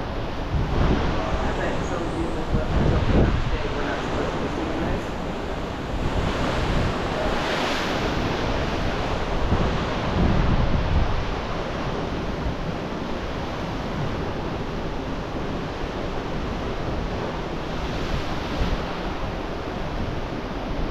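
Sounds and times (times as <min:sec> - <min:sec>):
rushing wind: 0:00.0 - 0:20.9
sea noise: 0:00.0 - 0:20.9
wind buffeting microphone: 0:00.0 - 0:20.9.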